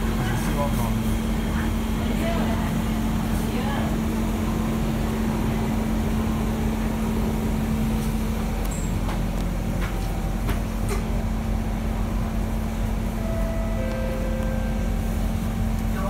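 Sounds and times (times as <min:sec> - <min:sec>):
low rumble of train: 0:00.0 - 0:16.0.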